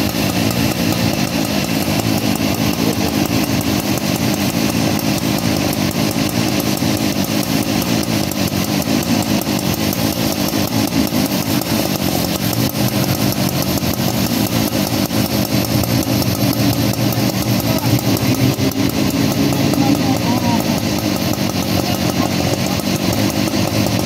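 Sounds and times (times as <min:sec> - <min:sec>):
fire engine running: 0:00.0 - 0:24.0
hose spraying water: 0:00.0 - 0:24.0.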